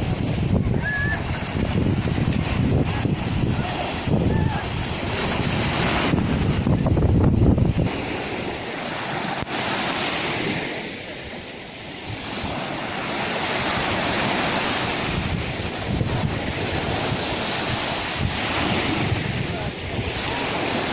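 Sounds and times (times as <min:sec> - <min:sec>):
sea waves breaking: 0:00.0 - 0:20.9
wind buffeting microphone: 0:00.0 - 0:20.9.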